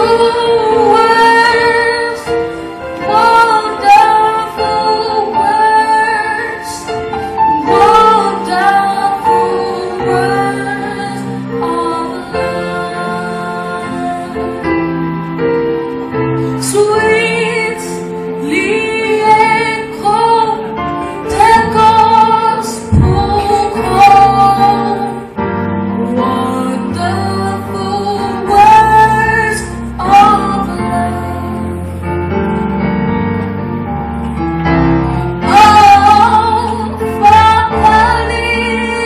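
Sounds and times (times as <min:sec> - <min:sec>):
sustained instrumental chords: 0:00.0 - 0:39.0.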